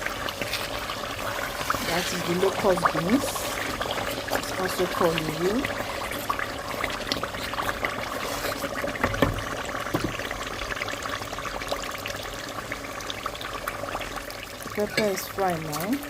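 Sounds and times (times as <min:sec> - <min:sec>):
sauce sizzling in oil: 0:00.0 - 0:16.0.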